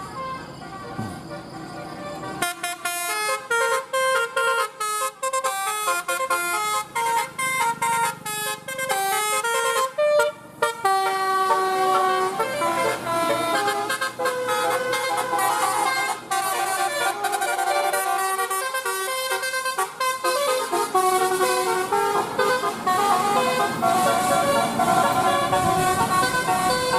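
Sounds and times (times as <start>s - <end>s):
musical bus horn playing a tune: 0.0s - 26.9s.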